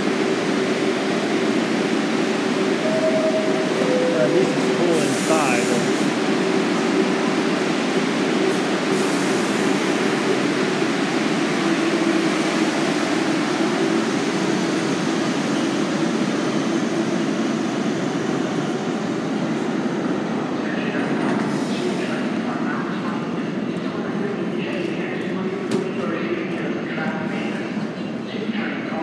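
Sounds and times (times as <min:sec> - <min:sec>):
subway train rumbling: 0:00.0 - 0:29.0.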